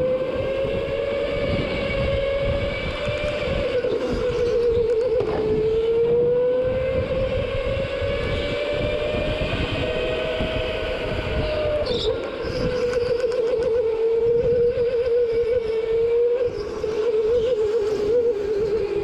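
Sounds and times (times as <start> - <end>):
go-kart engine at full throttle: 0.0 - 19.0.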